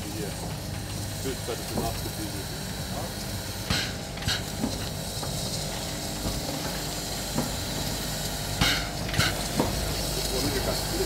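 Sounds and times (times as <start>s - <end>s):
steam hiss: 0.0s - 11.0s
steam locomotive chuff: 0.0s - 11.0s.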